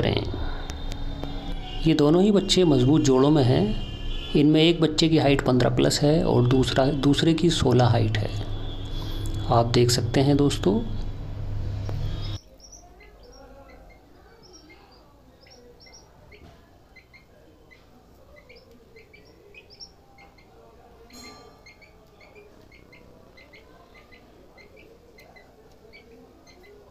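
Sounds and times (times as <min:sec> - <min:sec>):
birds chirping: 0:00.0 - 0:26.9
faint outdoor background: 0:00.0 - 0:26.9.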